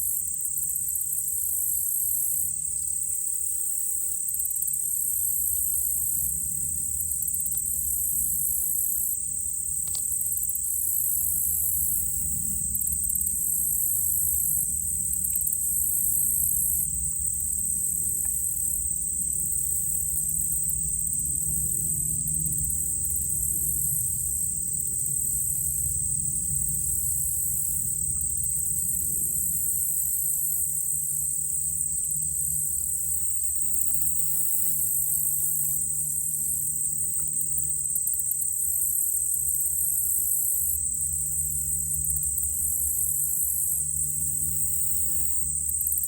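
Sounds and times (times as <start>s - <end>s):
crickets and night insects trilling: 0.0s - 46.0s
distant propeller plane hum: 0.0s - 46.0s
low steady drone: 0.0s - 46.0s.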